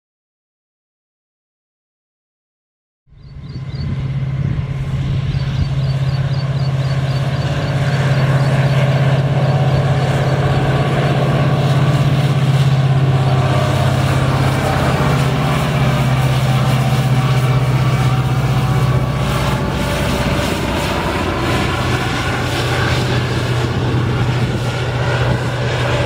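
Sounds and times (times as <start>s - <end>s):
diesel locomotive engine drone: 3.1s - 26.0s.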